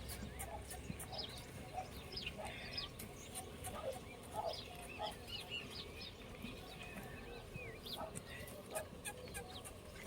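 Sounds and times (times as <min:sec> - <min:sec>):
farmyard fowl calls: 0:00.0 - 0:10.0
small birds chirping: 0:00.0 - 0:10.0.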